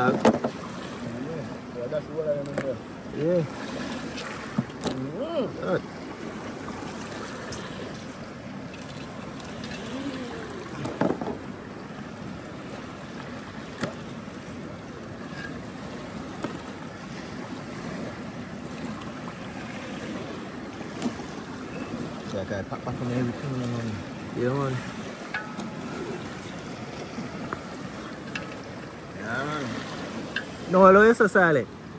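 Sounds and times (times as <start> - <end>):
water: 0.0 - 31.9
wind: 0.0 - 31.9.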